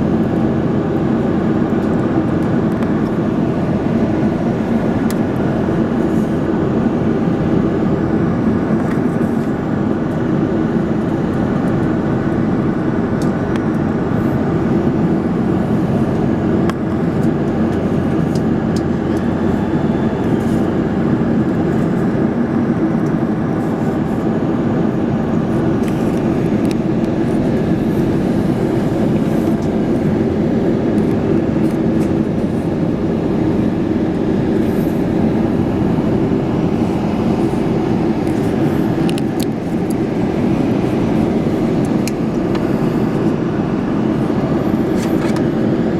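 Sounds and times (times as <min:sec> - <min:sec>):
aircraft cabin engine roar: 0:00.0 - 0:45.9.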